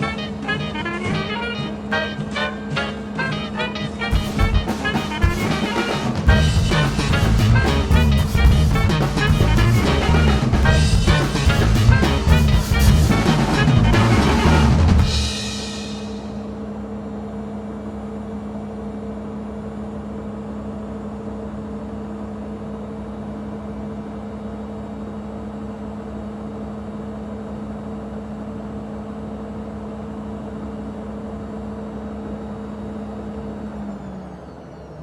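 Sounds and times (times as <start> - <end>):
washing machine humming: 0.0 - 34.1.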